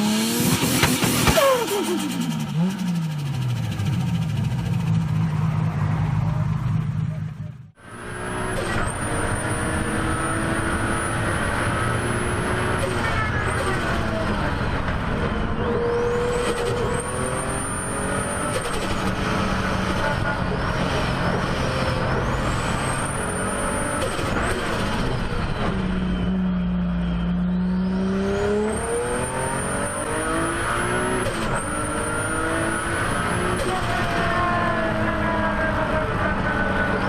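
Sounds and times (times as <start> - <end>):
car engine revving: 0.0 - 7.2, 7.9 - 37.0.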